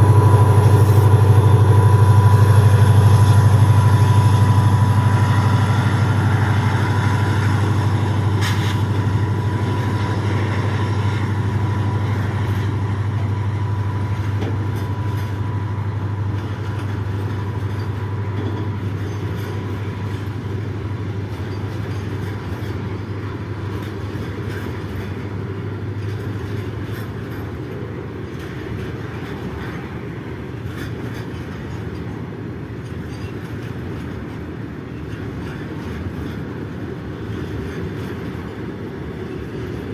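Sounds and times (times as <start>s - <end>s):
diesel locomotive engine hum: 0.0s - 39.9s
wagons rolling on rails: 0.0s - 39.9s.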